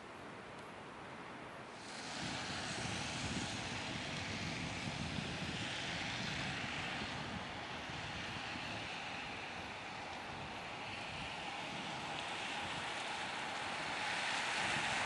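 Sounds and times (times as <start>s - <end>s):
traffic rushing: 1.7s - 15.0s
tyre hiss on wet road: 1.7s - 15.0s.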